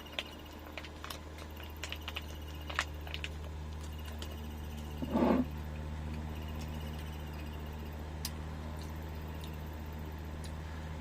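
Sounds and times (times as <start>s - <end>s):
man chewing food: 0.0s - 11.0s
steady low hum: 0.0s - 11.0s.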